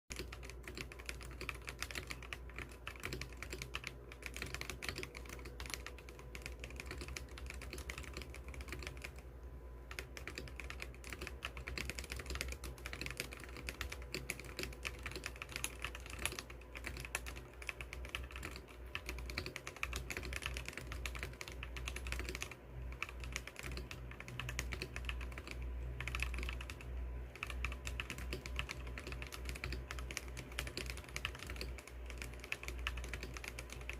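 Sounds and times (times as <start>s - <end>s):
mechanical keyboard typing: 0.1s - 9.3s, 9.9s - 33.9s.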